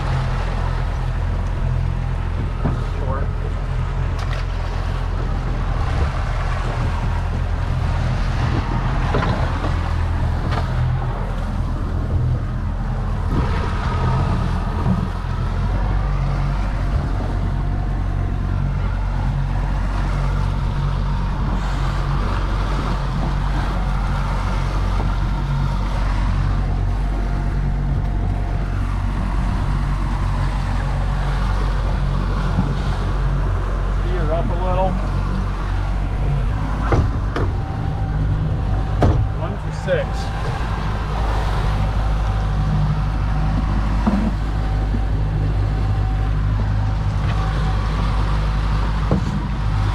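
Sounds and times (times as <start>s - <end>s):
boat engine running: 0.0s - 49.9s
water noise: 0.0s - 49.9s
wind: 0.0s - 49.9s.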